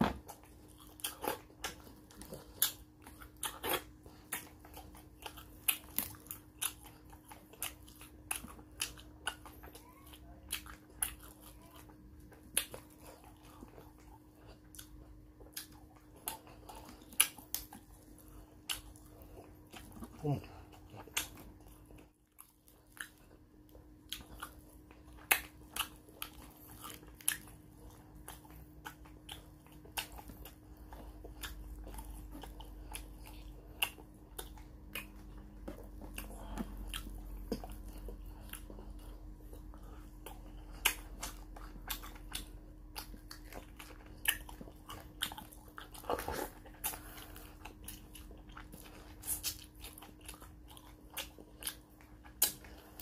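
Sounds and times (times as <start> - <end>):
faint steady hum: 0.0 - 53.0
person chewing and lip-smacking: 0.0 - 53.0.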